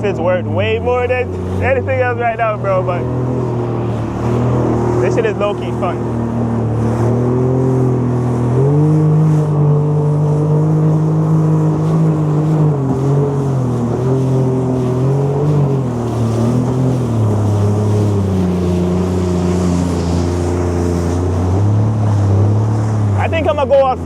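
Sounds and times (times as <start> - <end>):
jet ski engine running: 0.0 - 24.0.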